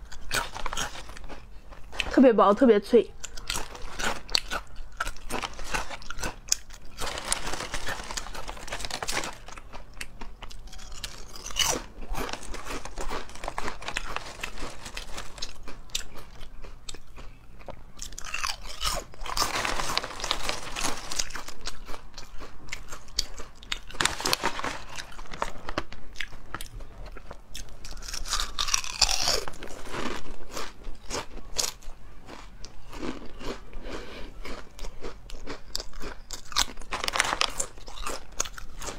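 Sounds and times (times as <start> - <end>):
crunching crisp chips: 0.0 - 2.2, 3.1 - 38.9.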